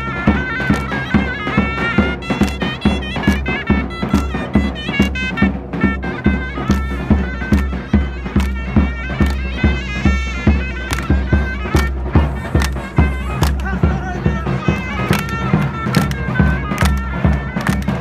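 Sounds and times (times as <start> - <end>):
bass drum beat: 0.0 - 18.0
reed pipe melody: 0.0 - 18.0.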